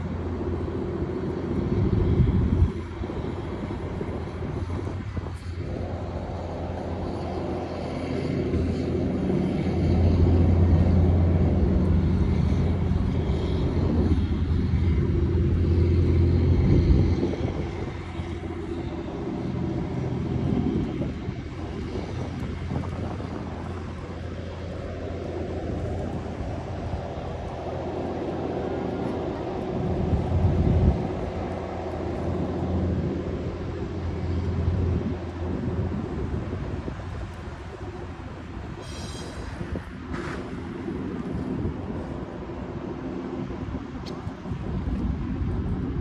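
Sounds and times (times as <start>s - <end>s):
low engine rumble: 0.0s - 46.0s.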